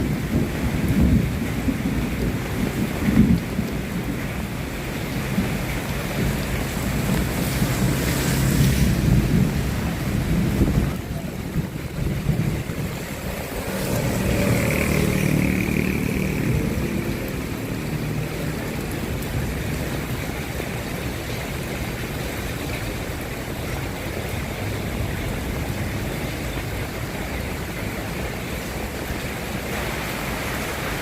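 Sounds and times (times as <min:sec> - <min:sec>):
heavy rain with low rumble: 0:00.0 - 0:31.0.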